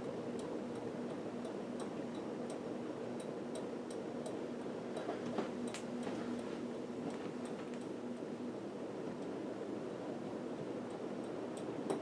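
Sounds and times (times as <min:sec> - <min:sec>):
ceiling fan motor hum: 0:00.0 - 0:12.0
fan ticking: 0:00.0 - 0:12.0.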